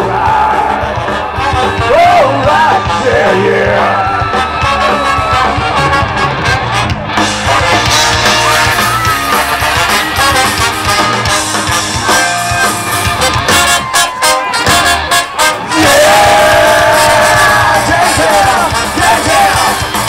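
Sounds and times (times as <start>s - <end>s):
horn section: 0.0s - 20.0s
ska-punk band playing: 0.0s - 20.0s.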